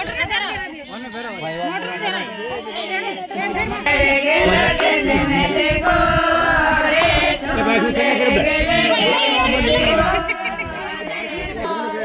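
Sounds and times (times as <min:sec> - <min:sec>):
women singing in chorus: 0:02.0 - 0:12.0.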